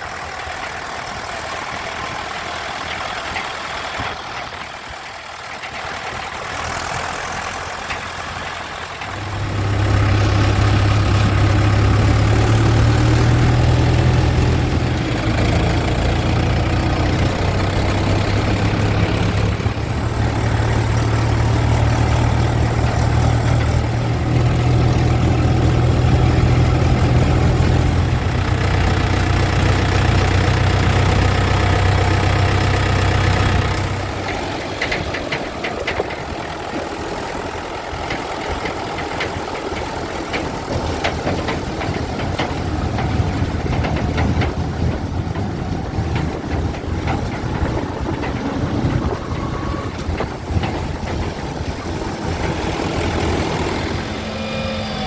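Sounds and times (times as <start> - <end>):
diesel engine drone: 0.0 - 55.0.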